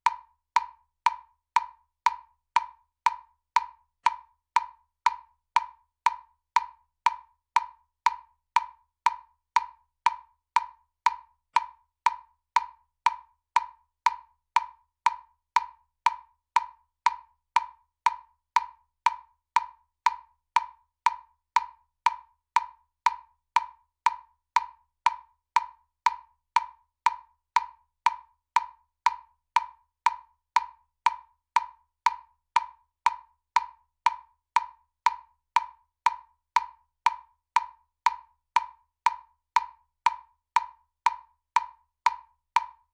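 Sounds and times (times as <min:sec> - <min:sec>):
metronome ticking: 0:00.0 - 0:42.9.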